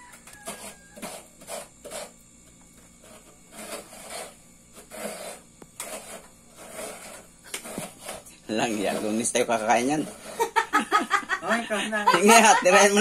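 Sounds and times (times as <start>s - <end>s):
coconut scraping strokes: 0.0s - 11.3s.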